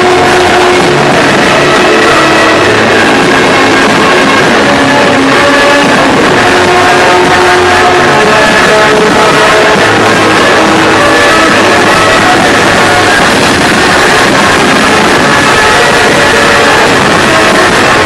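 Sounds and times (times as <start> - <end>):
loud rock music with guitar: 0.0 - 18.0.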